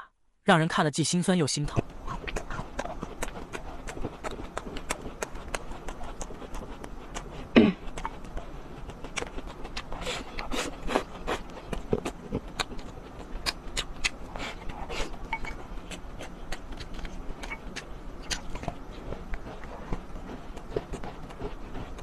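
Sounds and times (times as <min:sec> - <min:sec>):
chewing clicks: 0:01.7 - 0:22.0.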